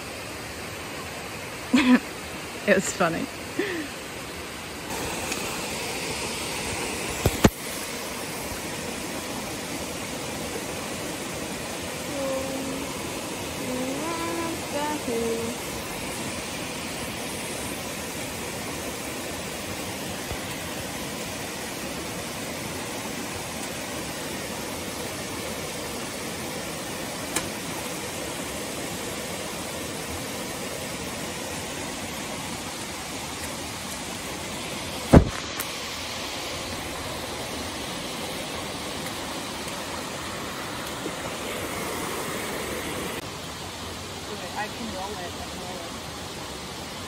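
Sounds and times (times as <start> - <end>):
creek and waterfall rushing: 0.0 - 47.0.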